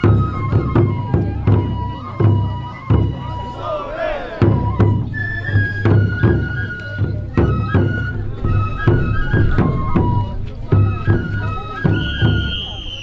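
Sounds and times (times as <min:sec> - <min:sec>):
bamboo flute melody: 0:00.0 - 0:13.0
taiko drum beats: 0:00.0 - 0:13.0.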